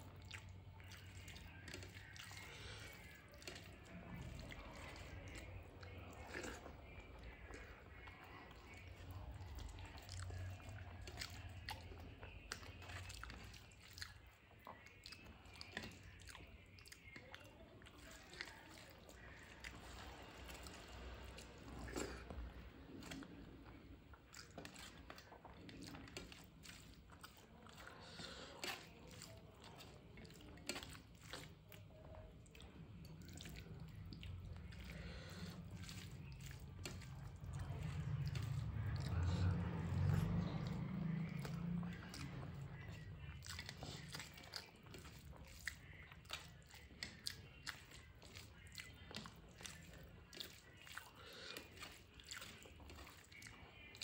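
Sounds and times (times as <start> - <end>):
fingers mixing rice on plate: 0.0 - 54.0
person chewing with mouth clicks: 0.0 - 54.0.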